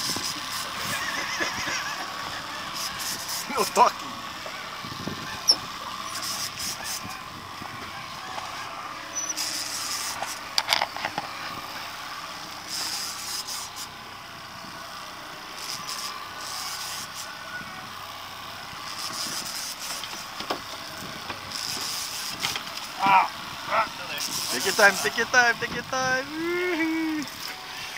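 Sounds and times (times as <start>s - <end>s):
outboard motor running: 0.0s - 27.9s
wind and water hiss: 0.0s - 27.9s.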